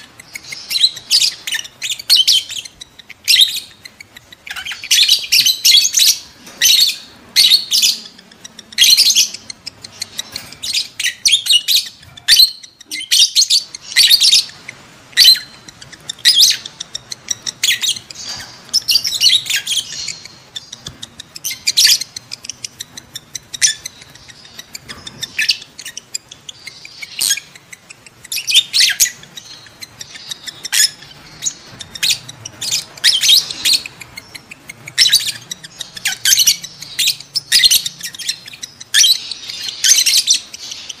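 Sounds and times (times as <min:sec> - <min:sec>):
lovebirds chirping and squawking: 0:00.0 - 0:41.0.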